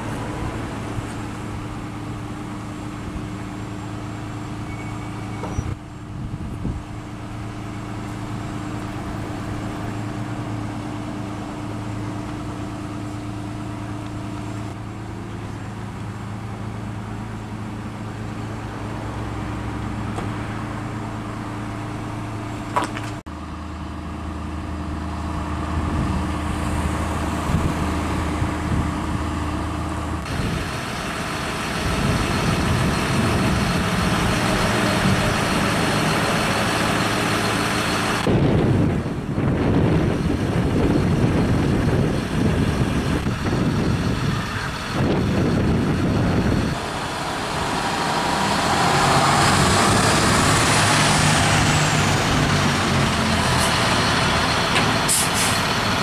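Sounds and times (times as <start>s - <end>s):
road traffic noise: 0.0s - 56.0s
vehicle engines idling: 0.0s - 56.0s
vehicle passing rumble: 0.0s - 56.0s.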